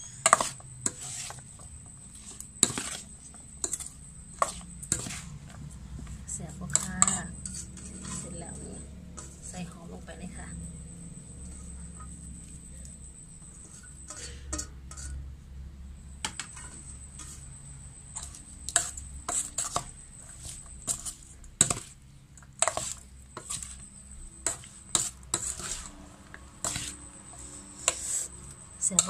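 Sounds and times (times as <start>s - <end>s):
spoon scraping metal bowl: 0.0s - 15.2s, 16.3s - 29.0s.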